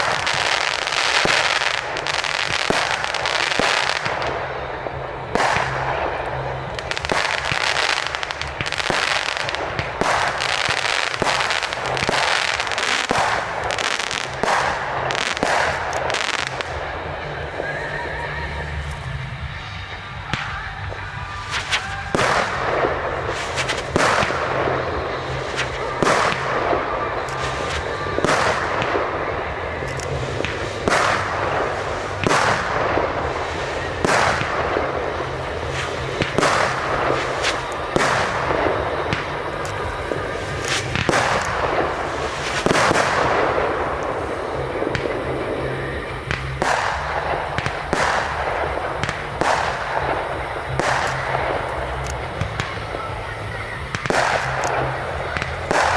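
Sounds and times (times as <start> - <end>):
fireworks bursting with bangs: 0.0 - 55.9.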